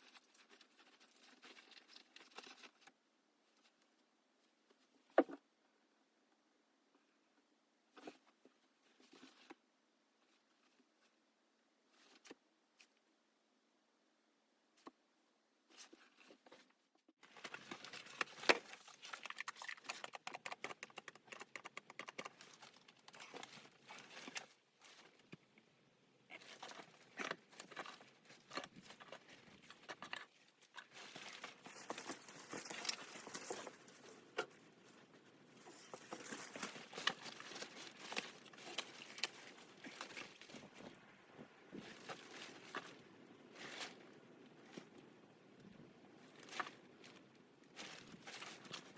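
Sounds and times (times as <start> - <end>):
rustling and crinkling of handling: 0.0 - 5.4, 7.9 - 13.1, 15.7 - 48.9.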